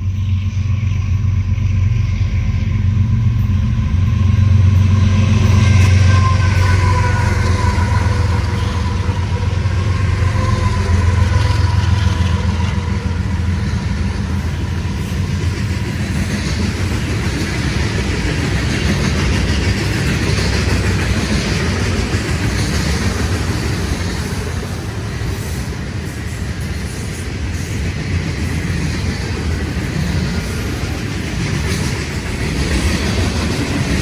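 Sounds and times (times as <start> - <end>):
diesel locomotive rumble: 0.0 - 34.0
train cars rolling over rails: 0.0 - 34.0.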